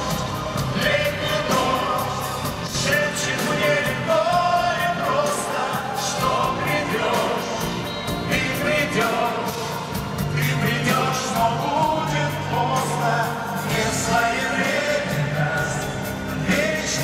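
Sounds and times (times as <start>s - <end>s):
live band playing: 0.0s - 17.0s
male vocal group singing: 0.0s - 17.0s.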